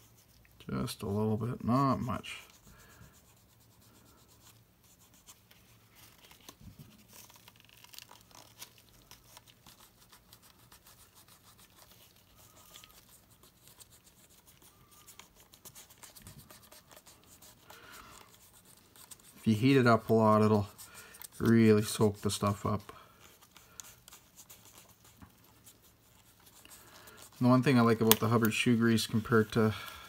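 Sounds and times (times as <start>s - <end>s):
gloved hand rubbing leather: 0.0s - 30.0s
small scratches and clicks: 3.2s - 29.7s.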